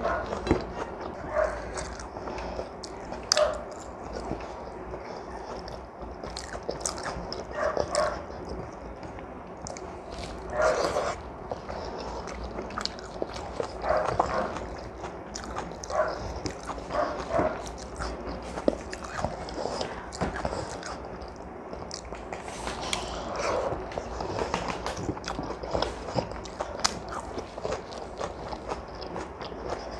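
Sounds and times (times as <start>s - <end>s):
chewing and smacking: 0.0s - 29.9s
fingers mixing food on a plate: 0.0s - 29.9s.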